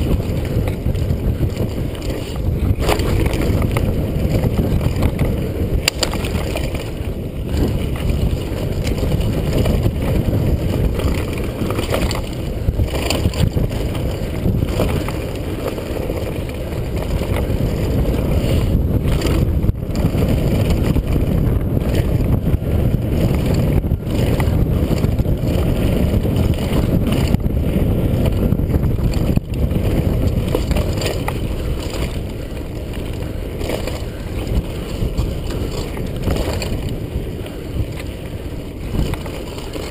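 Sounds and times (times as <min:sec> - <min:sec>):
bike knocks and rattles over bumps: 0:00.0 - 0:39.9
wind buffeting helmet camera: 0:00.0 - 0:39.9.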